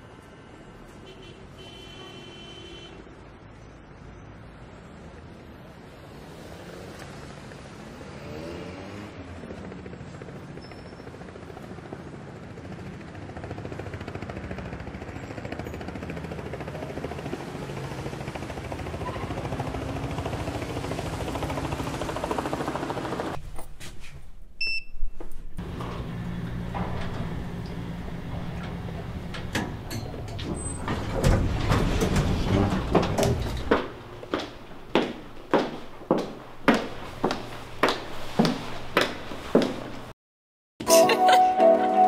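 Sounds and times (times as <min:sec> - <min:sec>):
city traffic rumble: 0:00.0 - 0:40.1.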